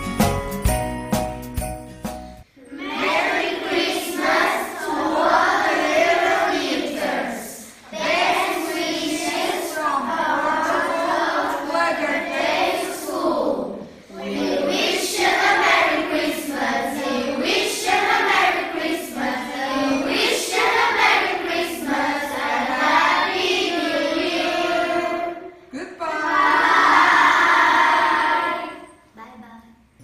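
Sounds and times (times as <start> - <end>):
children singing in chorus: 2.6 - 25.6, 26.3 - 29.0.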